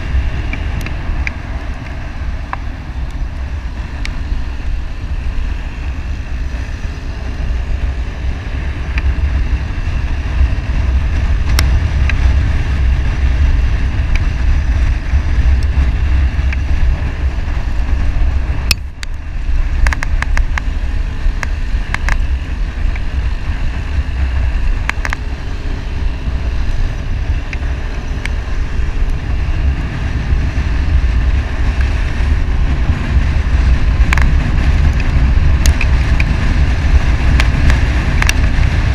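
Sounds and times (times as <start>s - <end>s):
motorcycle engine rumble: 0.0s - 38.9s
wind buffeting microphone: 0.0s - 38.9s.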